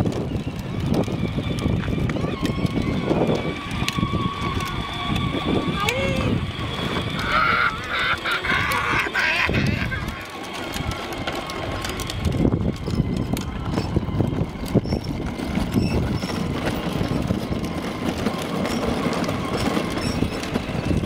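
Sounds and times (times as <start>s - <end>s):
plastic toy wheels rolling on concrete: 0.0s - 21.0s.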